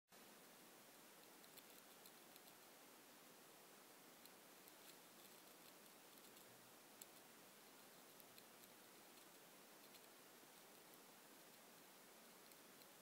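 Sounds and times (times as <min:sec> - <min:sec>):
faint room hiss: 0:00.1 - 0:13.0.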